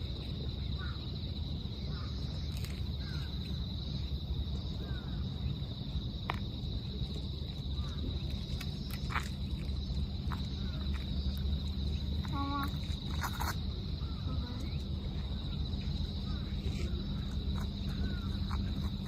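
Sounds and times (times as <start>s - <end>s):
insects trilling: 0.0s - 19.0s
low steady rumble: 0.0s - 19.0s.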